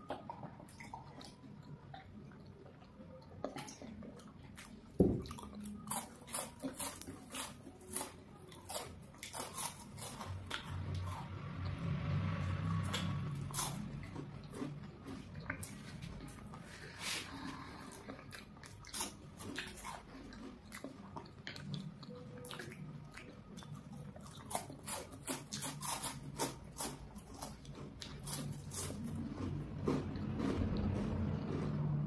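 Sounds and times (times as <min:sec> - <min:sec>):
chocolate crunching: 0:00.0 - 0:11.7, 0:12.7 - 0:16.9, 0:17.5 - 0:32.0.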